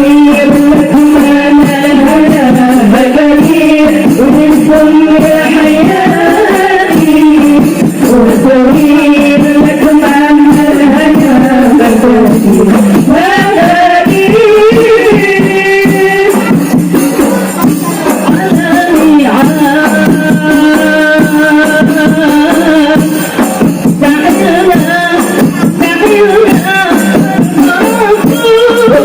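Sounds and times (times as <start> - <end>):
frame drums beating: 0.0 - 29.0
person singing: 0.0 - 29.0.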